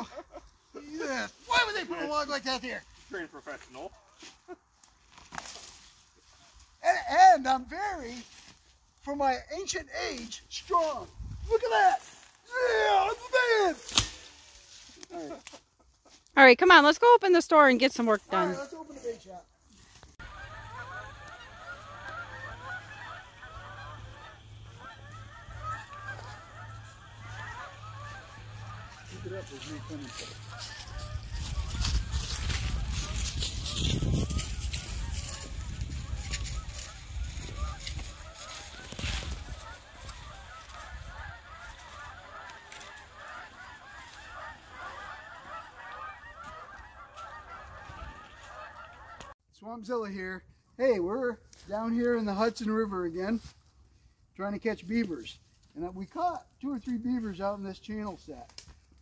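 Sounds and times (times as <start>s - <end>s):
geese honking: 0.0s - 49.4s, 54.4s - 58.5s.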